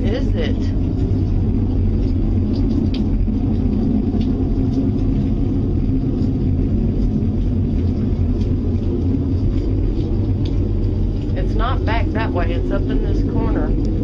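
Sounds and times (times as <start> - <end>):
deep rumbling drone: 0.0 - 14.0.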